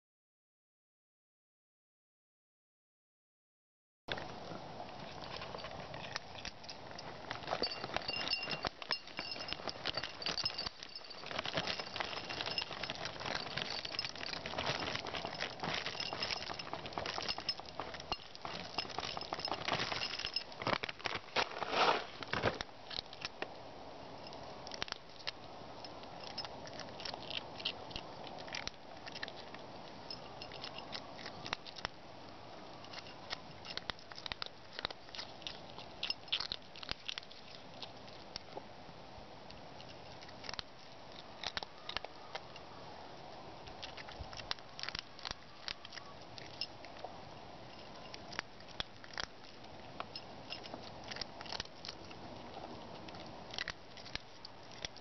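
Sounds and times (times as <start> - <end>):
cat crunching food: 4.1 - 55.0.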